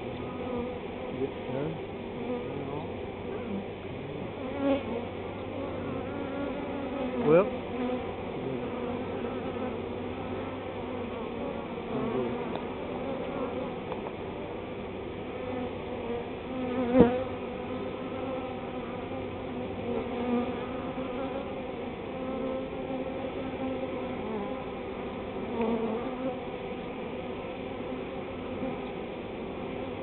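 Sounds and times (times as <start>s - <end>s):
bees buzzing: 0.0s - 30.0s
bee flying close past: 0.2s - 14.0s, 15.3s - 26.6s.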